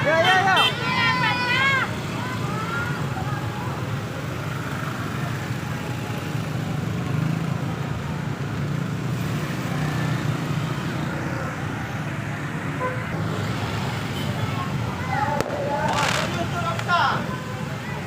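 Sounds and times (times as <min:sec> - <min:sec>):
hum of street noise: 0:00.0 - 0:18.0
vehicle engines running: 0:00.0 - 0:18.0.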